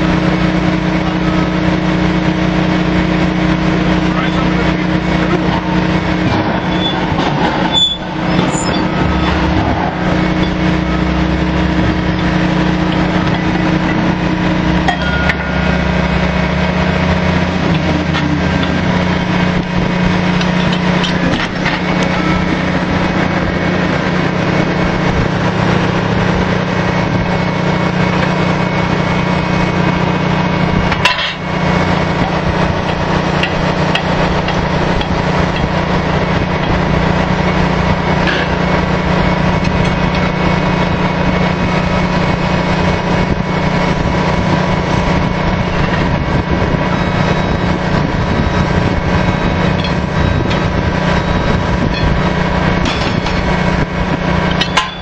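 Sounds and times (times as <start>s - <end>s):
engine and hydraulic hum: 0.0s - 55.0s.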